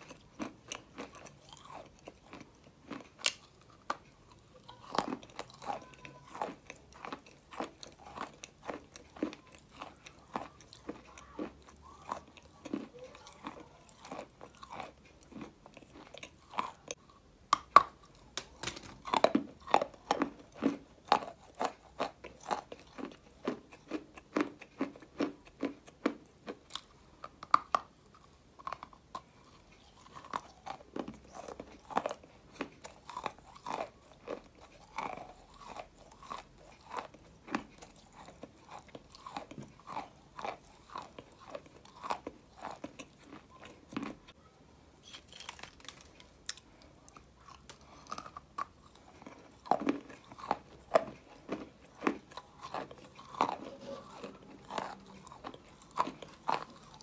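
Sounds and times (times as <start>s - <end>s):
crunching clay with teeth: 0.0s - 44.4s, 45.0s - 57.0s.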